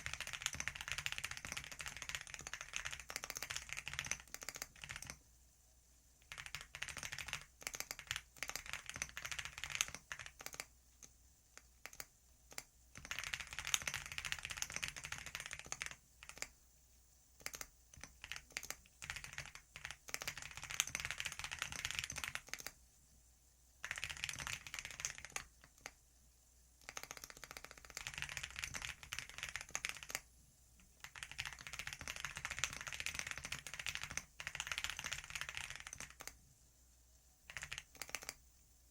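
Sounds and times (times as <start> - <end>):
computer keyboard typing: 0.0 - 5.2, 6.2 - 16.6, 17.4 - 22.8, 23.8 - 26.0, 26.8 - 36.4, 37.5 - 38.4.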